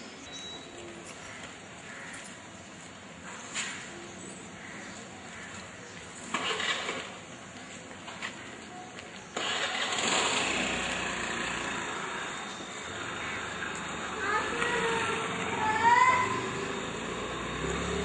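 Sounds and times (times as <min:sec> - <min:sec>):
motor vehicle engines: 0:00.0 - 0:18.0.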